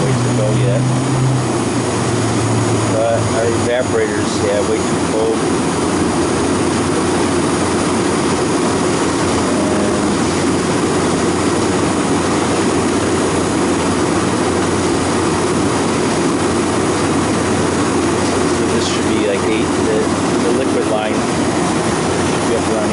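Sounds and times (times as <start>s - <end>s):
condensing unit mechanical drone: 0.0s - 22.9s.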